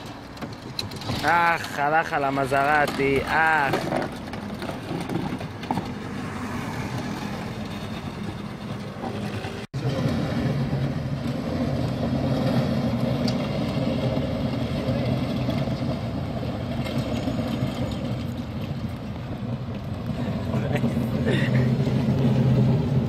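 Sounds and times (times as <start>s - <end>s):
highway traffic: 0.0s - 23.0s
vehicle engine running: 3.8s - 23.0s.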